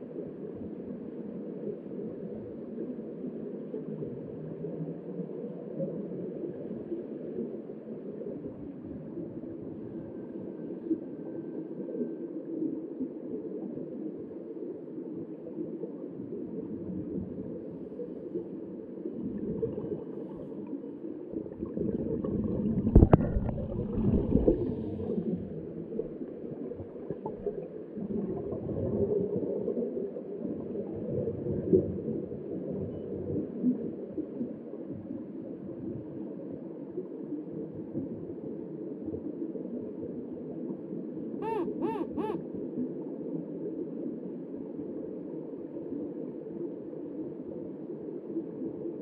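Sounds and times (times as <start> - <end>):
underwater bubbles gurgling: 0.0 - 49.0.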